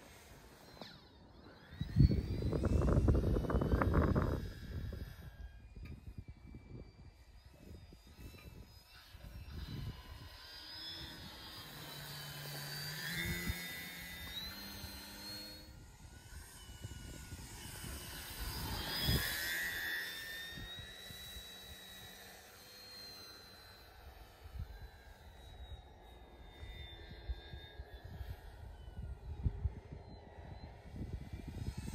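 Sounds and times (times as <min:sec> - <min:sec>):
electric motor and propeller whine: 0:00.0 - 0:31.9.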